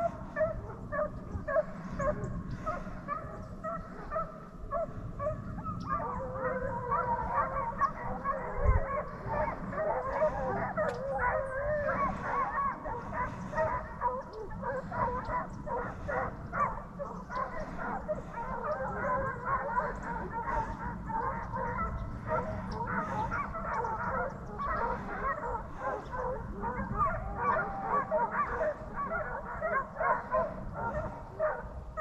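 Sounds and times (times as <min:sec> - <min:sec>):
hounds baying: 0:00.0 - 0:32.0.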